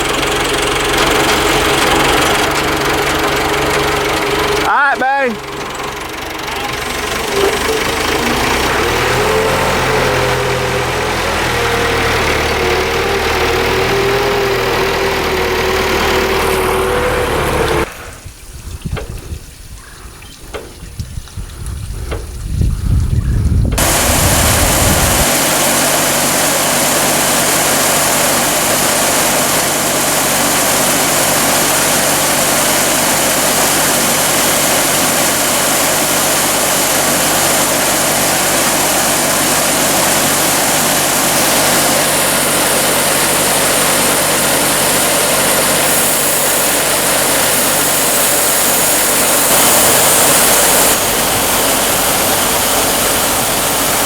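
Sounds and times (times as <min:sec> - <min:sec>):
loud machinery engine hum: 0:00.0 - 0:18.2, 0:23.7 - 0:54.0.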